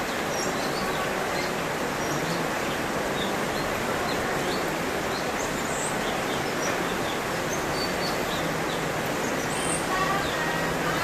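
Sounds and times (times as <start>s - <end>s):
songbird chirping: 0.0s - 11.0s
steady background hiss: 0.0s - 11.0s.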